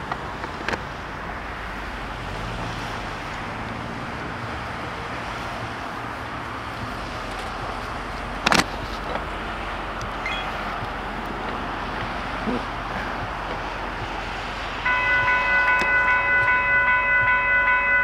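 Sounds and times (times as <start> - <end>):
distant road traffic: 0.0 - 18.0
low vehicle hum: 0.0 - 18.0
wind: 0.0 - 18.0.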